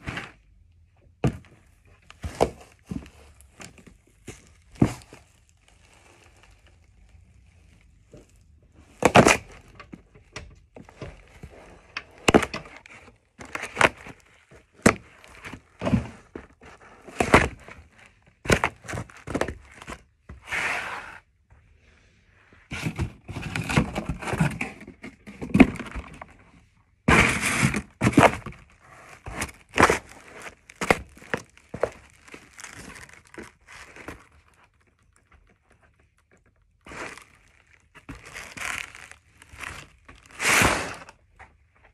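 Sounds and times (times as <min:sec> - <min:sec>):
cardboard boxes crunching underfoot: 0:00.0 - 0:10.1, 0:10.7 - 0:21.3, 0:22.7 - 0:41.9.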